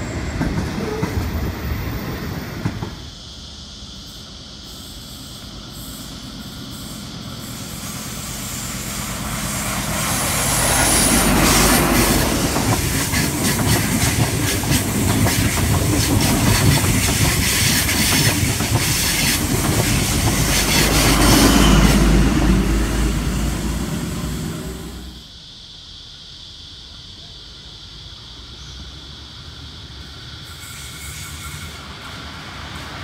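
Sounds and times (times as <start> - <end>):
diesel train passing: 0.0 - 25.8, 28.1 - 33.0.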